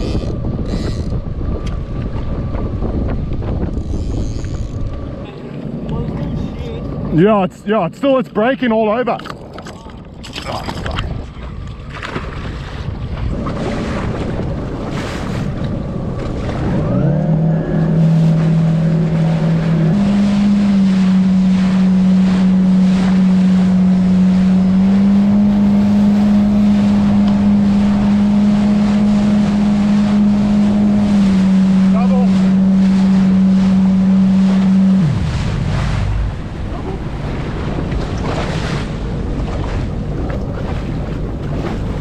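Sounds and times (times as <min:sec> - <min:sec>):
boat engine throttling up: 0:00.0 - 0:07.3, 0:13.3 - 0:42.0
wind and water rushing: 0:00.0 - 0:42.0.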